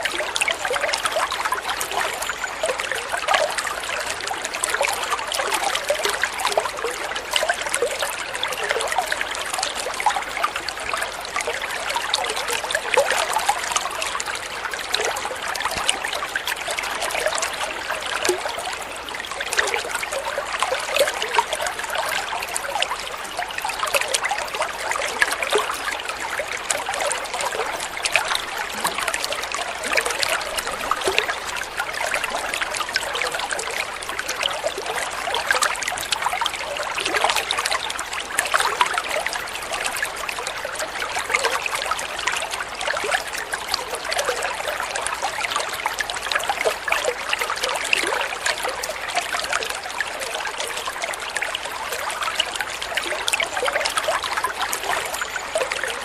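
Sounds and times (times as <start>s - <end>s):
small water splashes: 0.0s - 56.0s
water flowing: 0.0s - 56.0s.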